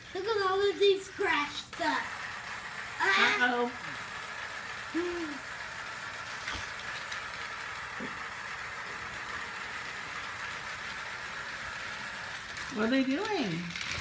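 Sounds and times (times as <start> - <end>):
toy train motor whirr: 0.0 - 14.0.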